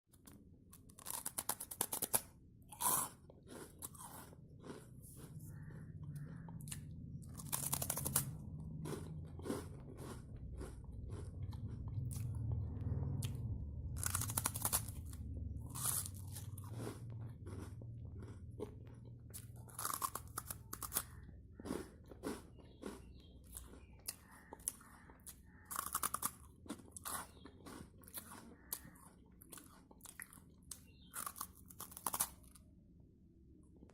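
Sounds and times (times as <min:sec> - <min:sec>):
gritty chewing: 0:00.2 - 0:32.6.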